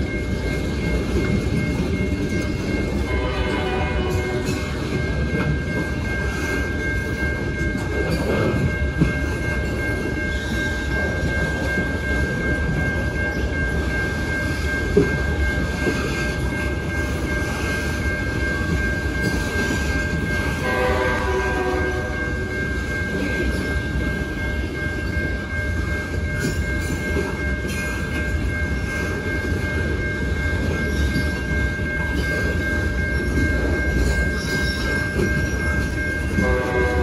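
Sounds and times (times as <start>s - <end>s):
high-pitched ringing: 0.0s - 37.0s
train wheels rumbling on rail: 0.0s - 37.0s.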